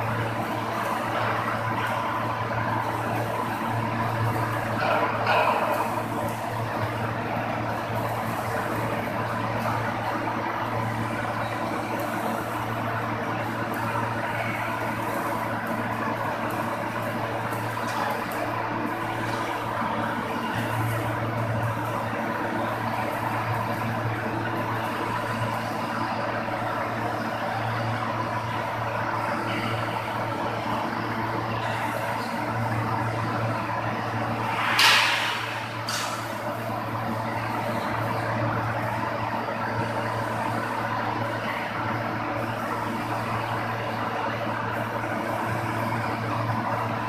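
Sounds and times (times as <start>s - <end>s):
welding arc humming and hissing: 0.0s - 47.0s.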